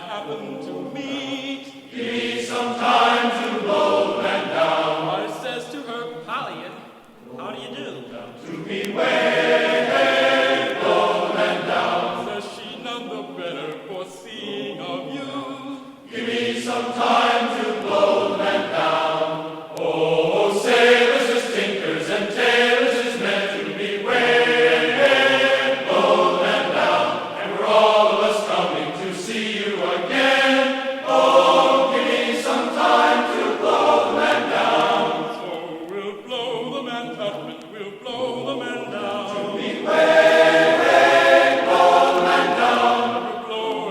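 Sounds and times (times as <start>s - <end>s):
choir-like singing music: 0.0s - 43.9s.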